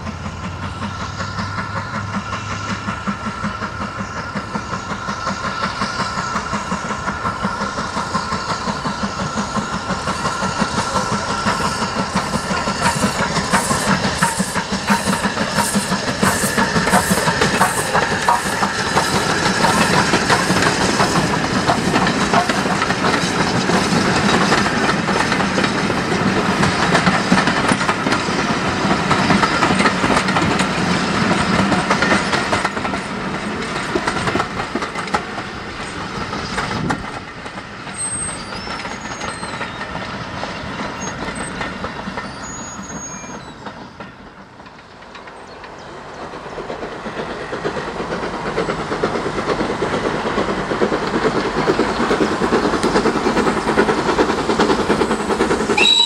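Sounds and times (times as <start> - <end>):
steam train running past: 0.0 - 56.0
wheels clacking over rail joints: 0.0 - 56.0.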